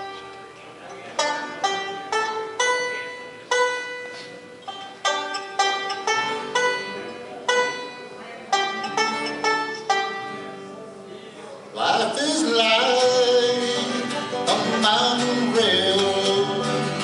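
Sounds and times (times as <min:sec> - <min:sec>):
bluegrass band playing: 0:00.0 - 0:17.0.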